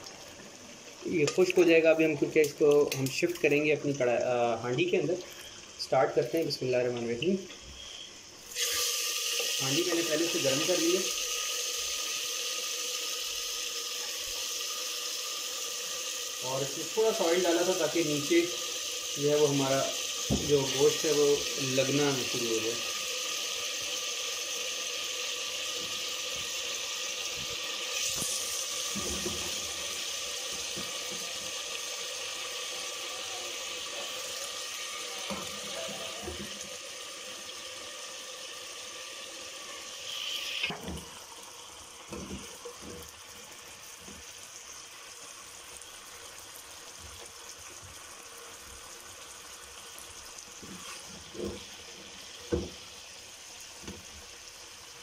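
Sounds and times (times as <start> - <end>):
chicken sizzling in a pot: 0.0 - 55.0.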